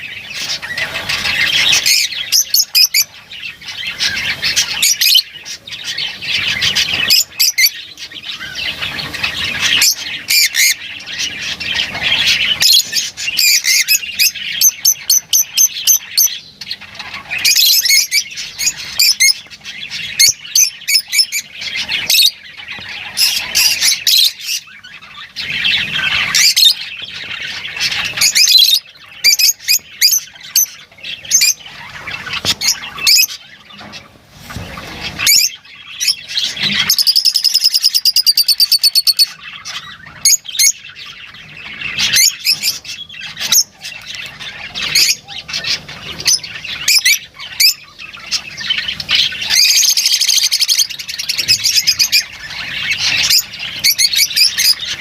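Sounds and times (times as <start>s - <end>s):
rapid rattling bird trill: 0.0s - 34.2s, 34.8s - 55.0s
lovebirds chirping and squawking: 0.0s - 55.0s.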